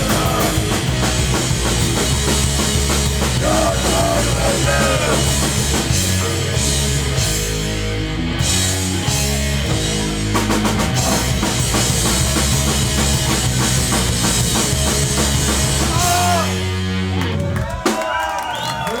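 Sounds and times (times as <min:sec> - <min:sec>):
fast drum beat: 0:00.0 - 0:16.7
distorted guitar and bass: 0:00.0 - 0:17.6
punk band playing live: 0:00.0 - 0:18.5.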